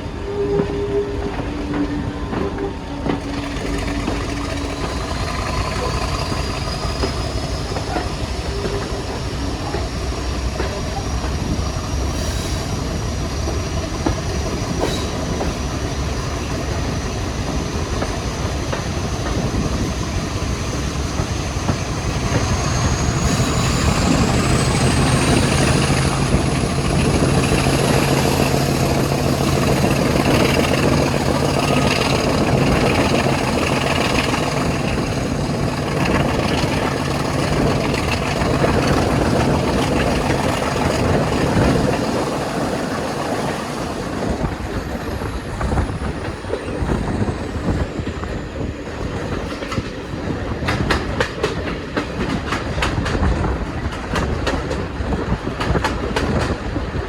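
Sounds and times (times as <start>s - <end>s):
diesel locomotive engine: 0.0s - 57.0s.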